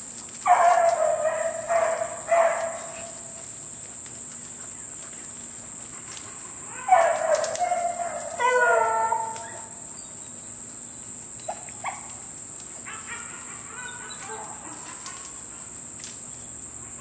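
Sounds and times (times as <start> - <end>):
high-pitched insect drone: 0.0 - 17.0
distant dogs baying: 0.4 - 10.6, 11.3 - 16.0.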